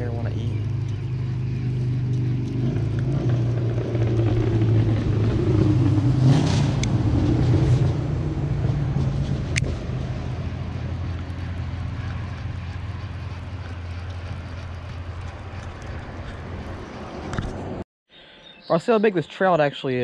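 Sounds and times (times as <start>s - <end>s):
vehicle engine humming: 0.0s - 17.8s.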